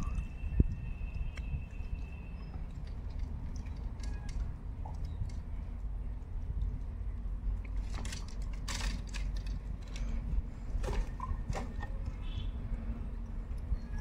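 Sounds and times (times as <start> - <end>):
fishing gear clicks and rustles: 0.0 - 12.3.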